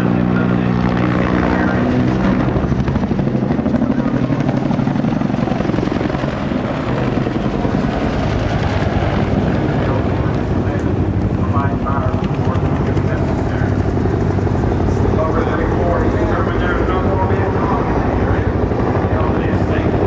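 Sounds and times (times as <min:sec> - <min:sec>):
helicopter rotors thumping: 0:00.0 - 0:20.0.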